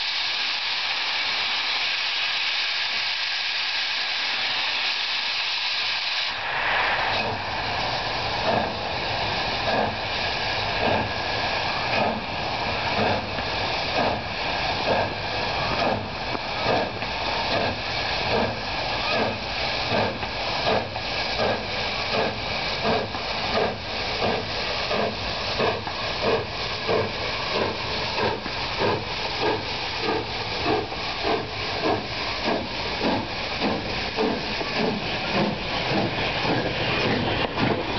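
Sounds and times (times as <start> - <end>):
steam hissing: 0.0 - 37.9
steam locomotive exhaust chuffs: 0.0 - 37.9.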